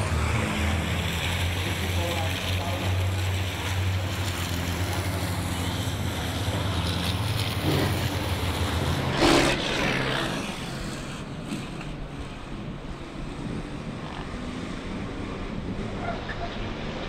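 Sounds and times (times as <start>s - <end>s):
diesel truck engines racing: 0.0s - 17.0s.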